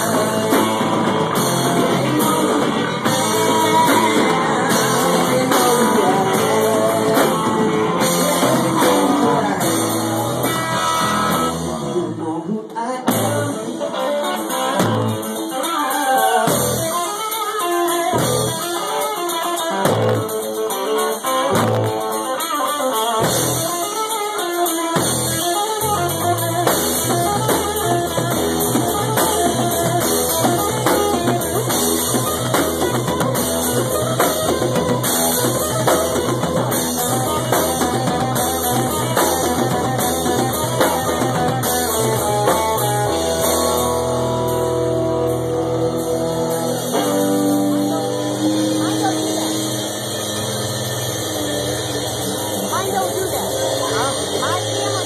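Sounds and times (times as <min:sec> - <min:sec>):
electric guitar line: 0:00.0 - 0:55.0
live rock band: 0:00.0 - 0:55.0.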